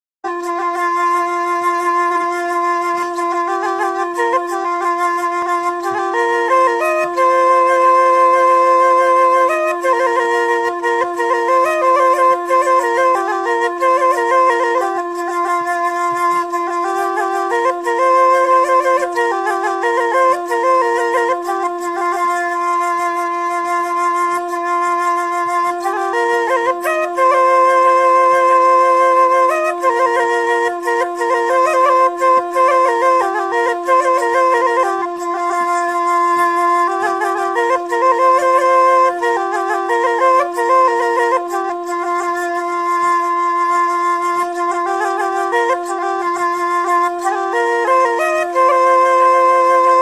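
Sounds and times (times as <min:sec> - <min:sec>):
wind instrument melody over drone: 0:00.3 - 0:50.0.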